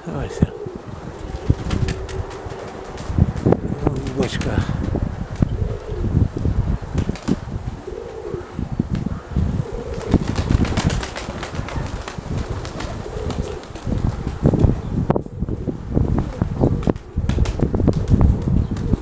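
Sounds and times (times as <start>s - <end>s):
pigeons cooing: 0.0s - 19.0s
wind on microphone: 0.0s - 19.0s.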